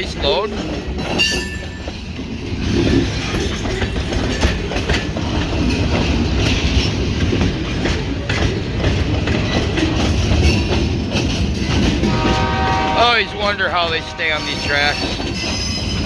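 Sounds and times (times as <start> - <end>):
freight cars rumbling: 0.0 - 16.0
wheel clacks and knocks: 0.0 - 16.0.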